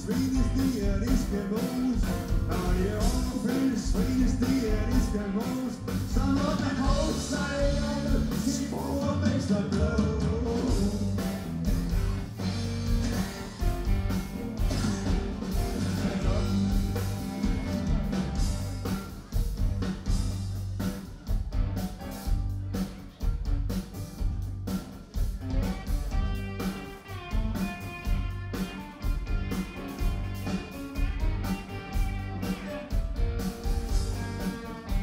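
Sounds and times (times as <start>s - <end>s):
bass guitar: 0.0s - 35.0s
drum kit beat: 0.0s - 35.0s
electric guitars: 0.0s - 35.0s.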